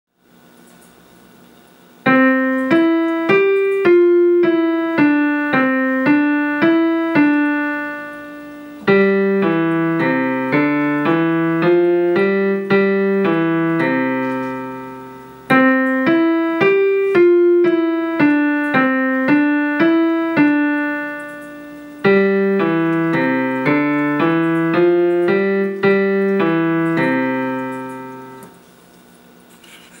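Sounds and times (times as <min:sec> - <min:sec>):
digital keyboard piano piece: 0:02.0 - 0:28.6.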